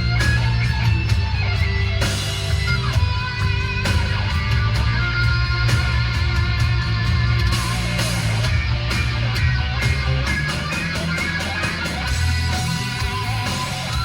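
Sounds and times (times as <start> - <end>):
guitar music over car speakers: 0.0 - 14.0.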